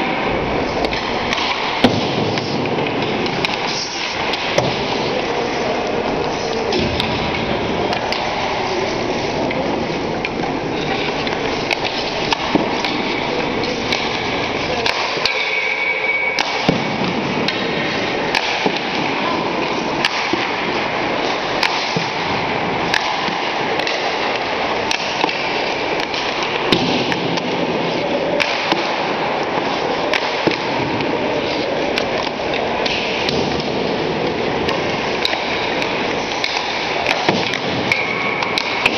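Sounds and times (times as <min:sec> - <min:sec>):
distant players' voices: 0:00.0 - 0:38.9
hockey sticks hitting pucks: 0:00.0 - 0:38.9
pucks striking pads and boards: 0:00.0 - 0:38.9
rink hubbub: 0:00.0 - 0:38.9.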